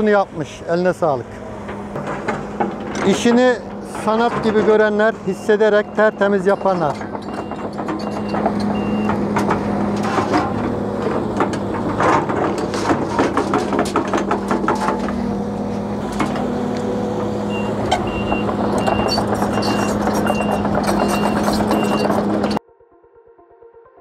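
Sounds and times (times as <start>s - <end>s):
excavator diesel engine: 0.0s - 22.6s
rocks and dirt clattering: 1.4s - 22.6s.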